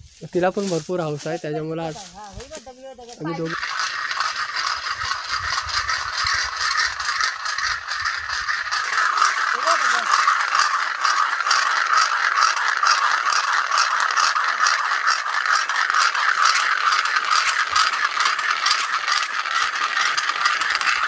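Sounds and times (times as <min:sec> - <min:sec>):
stones grinding against rocks: 0:03.2 - 0:21.0.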